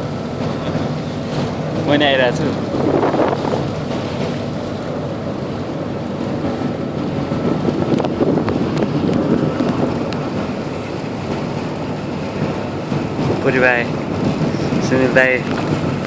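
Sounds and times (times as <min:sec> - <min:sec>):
sea wash: 0:00.0 - 0:16.0
wind on microphone: 0:00.0 - 0:16.0.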